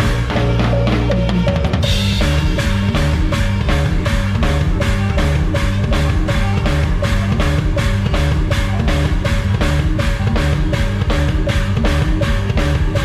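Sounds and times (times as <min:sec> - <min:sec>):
drum kit fast beat: 0:00.0 - 0:13.0
live band playing up-tempo music: 0:00.0 - 0:13.0.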